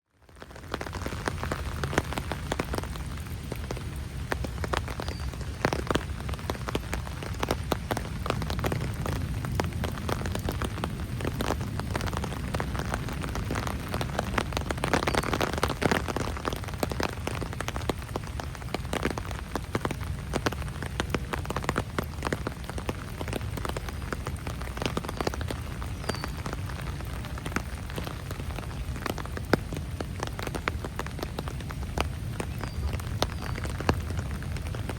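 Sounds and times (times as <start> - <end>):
raindrops hitting close by: 0.0 - 34.9.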